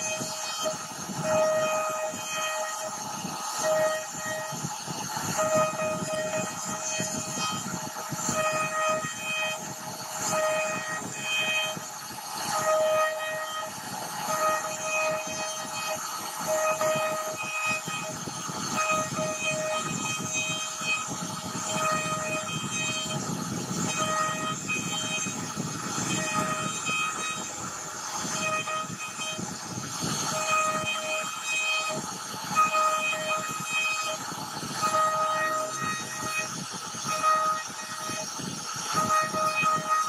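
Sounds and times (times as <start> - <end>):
router carving wood: 0.0 - 40.0.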